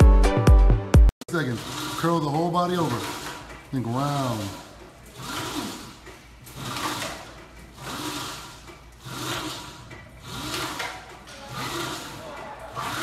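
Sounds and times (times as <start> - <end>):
rope trainer whirring: 1.2 - 13.0.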